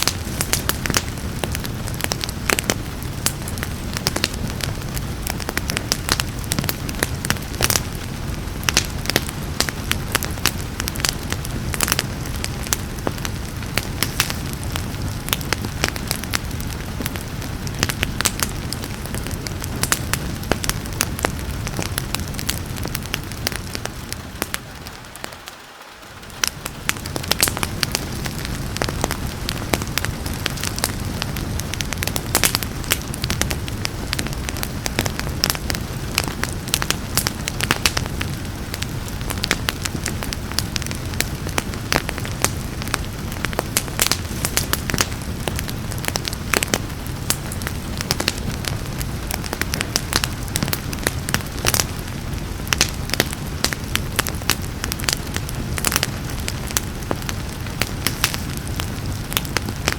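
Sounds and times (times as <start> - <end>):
rain hiss: 0.0 - 59.9
wood fire crackling and popping: 0.0 - 59.9.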